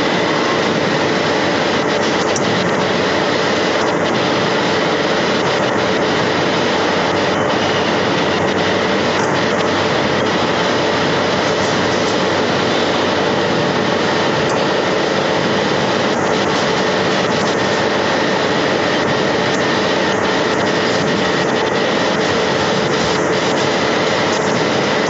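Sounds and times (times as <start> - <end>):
factory machinery rushing noise: 0.0 - 25.0.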